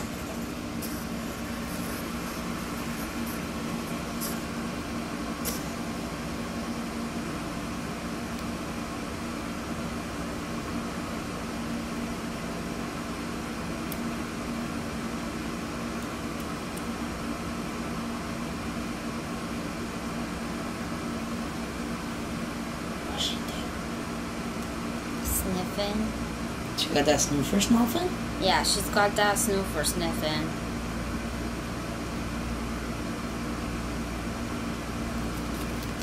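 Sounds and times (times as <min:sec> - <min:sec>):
fan humming with low drone: 0:00.0 - 0:36.0.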